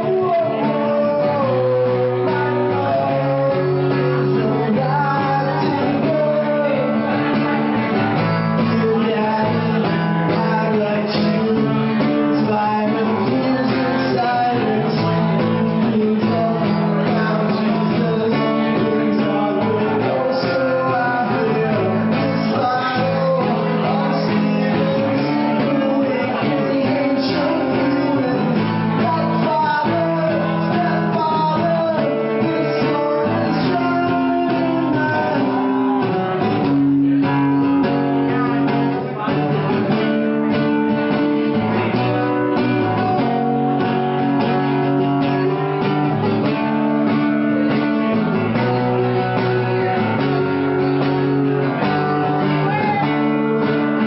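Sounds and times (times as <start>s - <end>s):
acoustic guitar: 0.0s - 54.0s.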